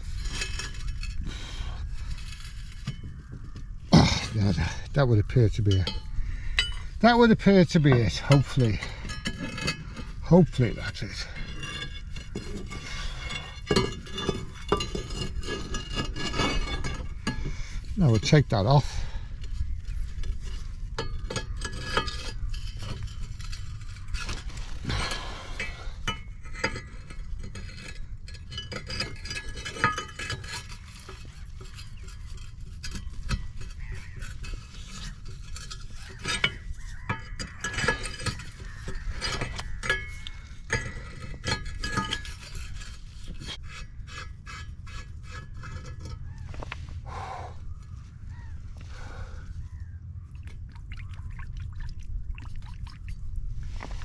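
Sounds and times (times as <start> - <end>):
metal tools clinking and scraping: 0.0 - 46.8.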